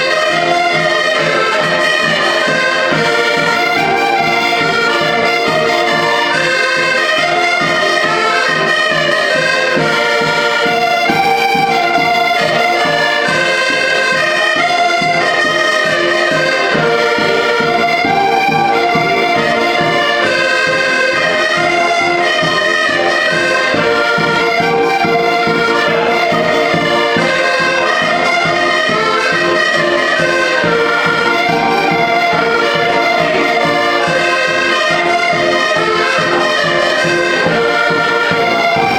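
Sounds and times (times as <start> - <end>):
live band playing traditional tune: 0.0 - 38.9.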